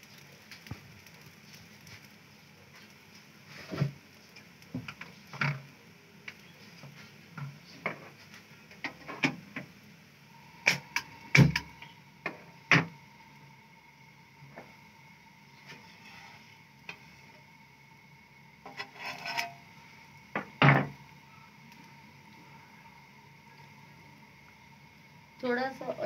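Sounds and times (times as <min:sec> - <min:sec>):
oil popping and crackling: 0:00.0 - 0:13.5, 0:18.3 - 0:25.8.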